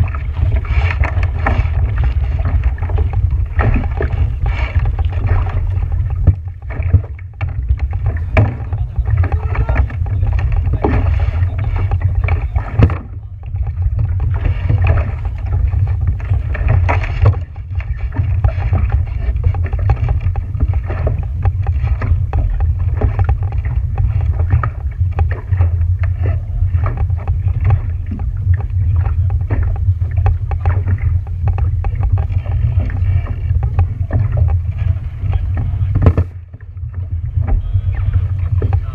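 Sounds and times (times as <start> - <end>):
knocks and splashes: 0.0 - 38.9
wind rumble on microphone: 0.0 - 38.9.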